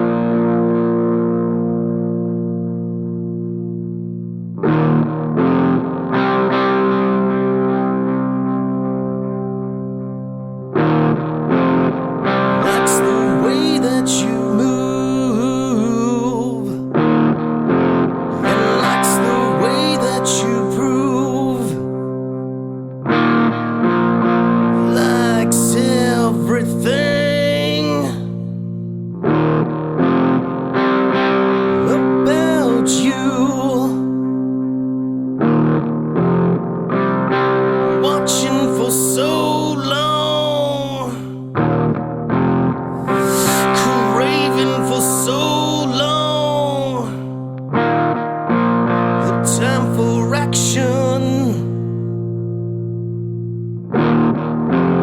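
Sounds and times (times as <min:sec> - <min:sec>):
distorted electric guitar chords: 0:00.0 - 0:55.0.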